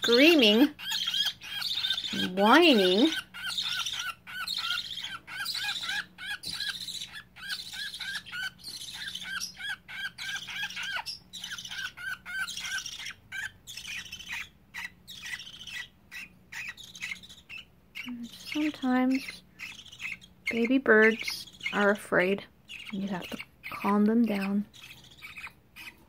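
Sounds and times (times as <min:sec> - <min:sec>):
budgerigar chicks chirping: 0:00.0 - 0:26.0.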